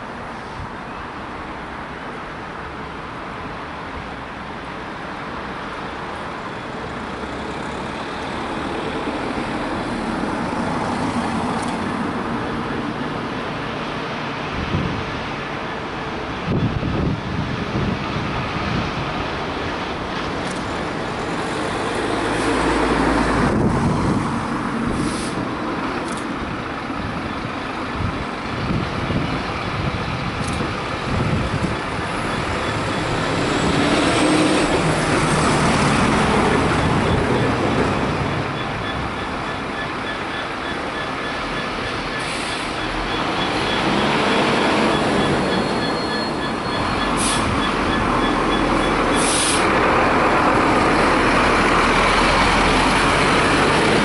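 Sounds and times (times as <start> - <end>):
diesel locomotive engine running: 6.2 - 54.0.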